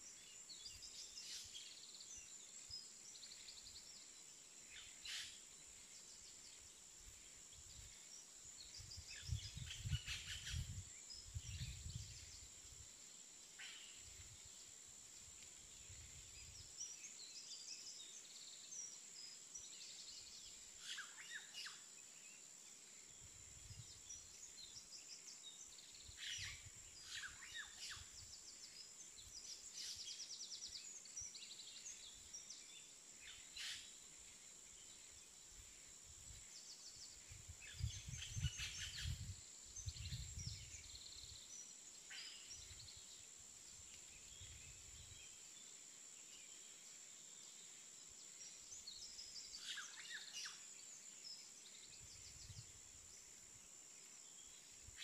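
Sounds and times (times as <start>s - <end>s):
faint birds chirping: 0.0s - 55.0s.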